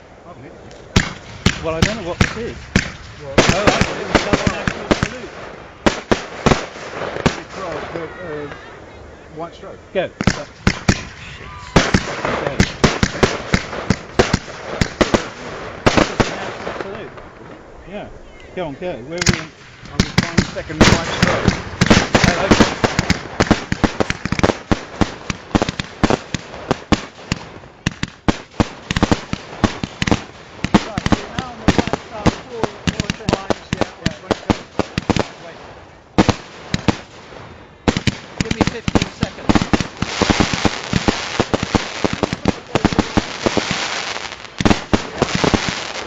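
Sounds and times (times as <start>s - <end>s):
fireworks bangs and cracks: 0.7s - 8.6s, 10.2s - 17.6s, 19.1s - 46.0s.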